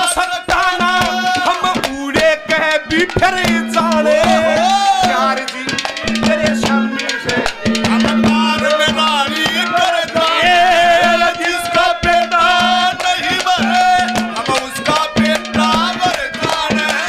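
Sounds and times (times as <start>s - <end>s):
hand drum strokes: 0.5s - 17.0s
wavering melody: 2.6s - 17.0s.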